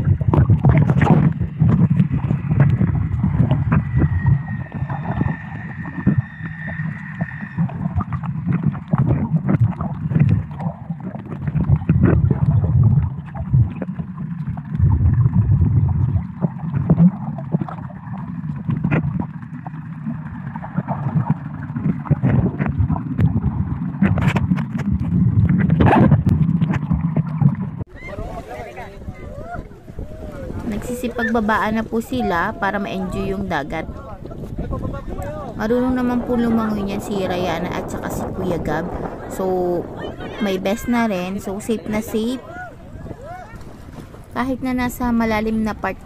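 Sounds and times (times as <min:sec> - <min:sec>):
low rumble: 0:00.0 - 0:27.9, 0:29.0 - 0:46.0
water gurgling underwater: 0:00.0 - 0:46.0.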